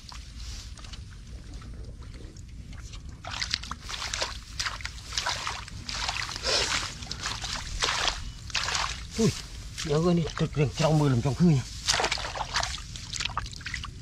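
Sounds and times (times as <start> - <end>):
hands squelching in wet mud: 0.0 - 14.0.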